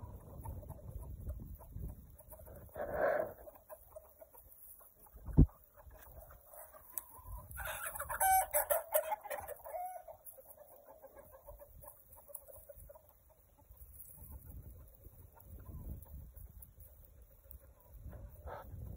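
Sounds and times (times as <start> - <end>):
chickens clucking: 0.0 - 18.9.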